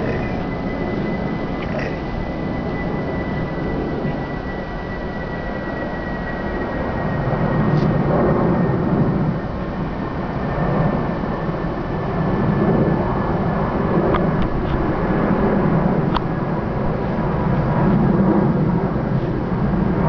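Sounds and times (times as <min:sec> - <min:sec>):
low rumbling noise: 0:00.0 - 0:20.0.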